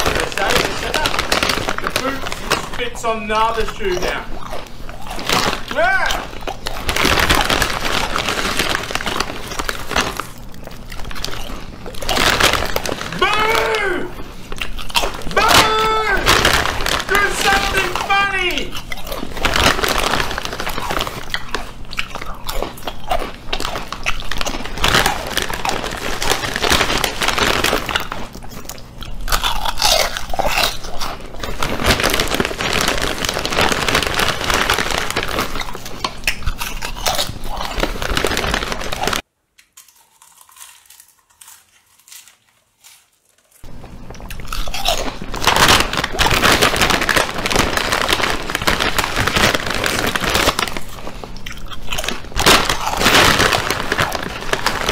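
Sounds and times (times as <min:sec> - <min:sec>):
crunching potato chips: 0:00.0 - 0:54.9.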